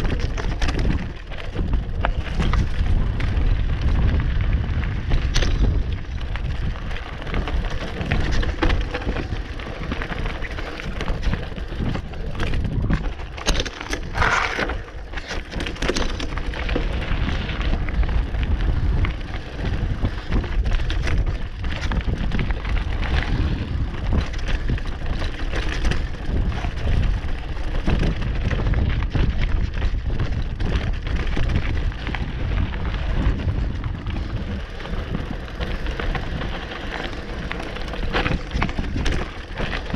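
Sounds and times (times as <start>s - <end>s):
bike rattling and knocking: 0.0s - 39.9s
tyres rumbling on rock and dirt: 0.0s - 39.9s
wind buffeting microphone: 0.0s - 39.9s.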